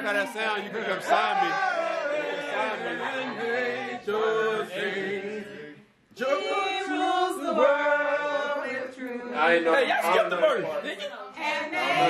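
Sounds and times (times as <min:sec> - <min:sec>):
group singing a carol unaccompanied: 0:00.0 - 0:12.0.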